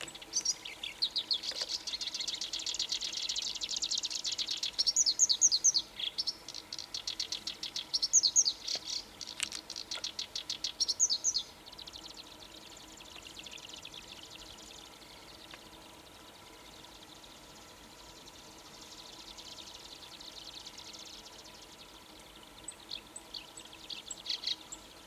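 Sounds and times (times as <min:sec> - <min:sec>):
warbler singing: 0:00.0 - 0:25.0.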